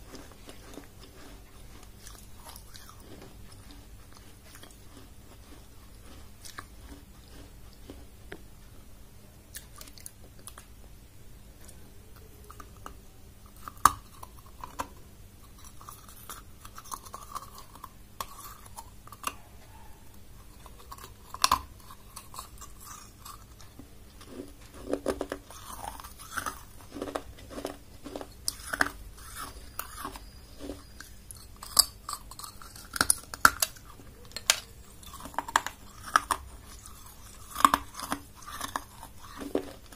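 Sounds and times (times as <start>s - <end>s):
crunching and chewing clay: 0.0s - 8.6s, 9.5s - 10.8s, 11.6s - 39.9s.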